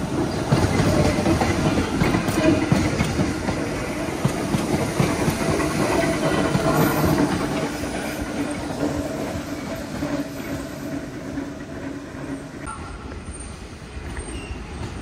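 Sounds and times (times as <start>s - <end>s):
train wheels clacking on rail joints: 0.0s - 12.8s
train rumble and hum: 0.0s - 15.0s.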